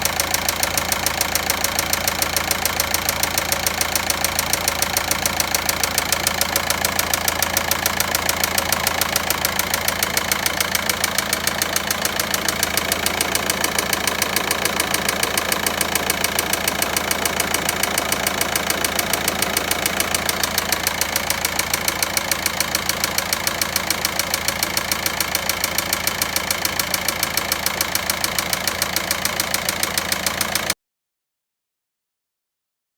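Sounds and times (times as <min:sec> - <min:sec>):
diesel engine idling: 0:00.0 - 0:30.8
rapid ticking knock: 0:00.5 - 0:30.8.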